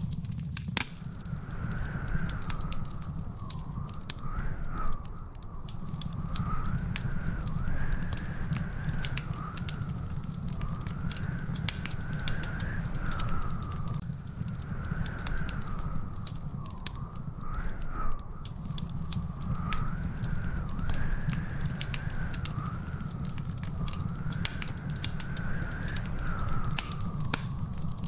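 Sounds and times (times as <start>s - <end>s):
wood fire crackling: 0.0s - 28.0s
thin whistling tone: 1.3s - 14.0s, 14.6s - 28.0s.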